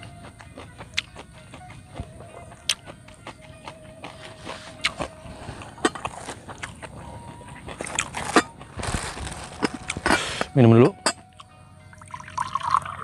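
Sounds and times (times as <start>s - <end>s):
mouth clicks and crunches: 0.0s - 10.5s
person chewing food: 0.0s - 10.5s.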